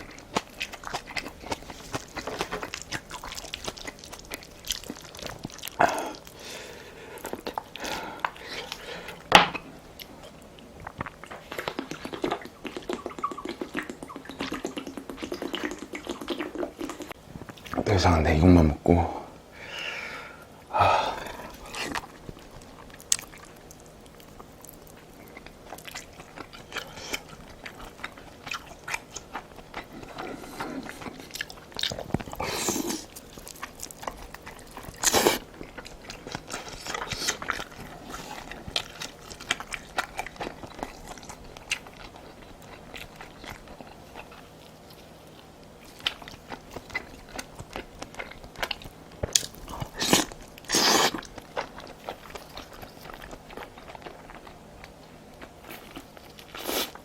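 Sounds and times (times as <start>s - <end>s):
wet mouth clicks and crunches: 0.0s - 6.4s, 7.2s - 17.8s, 21.4s - 57.0s
close chewing and biting: 0.0s - 17.9s, 21.1s - 57.0s.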